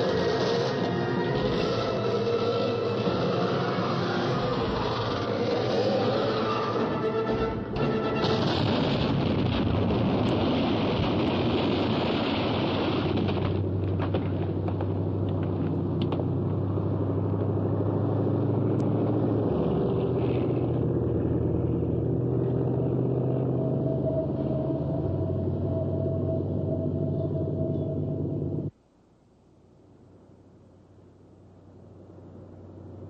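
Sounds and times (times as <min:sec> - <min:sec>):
vehicle engine rumbling: 0:00.0 - 0:28.8, 0:30.8 - 0:33.0.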